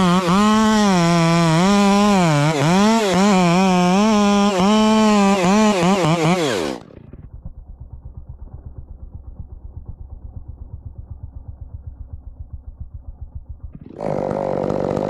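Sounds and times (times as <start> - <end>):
chainsaw engine: 0.0 - 15.0.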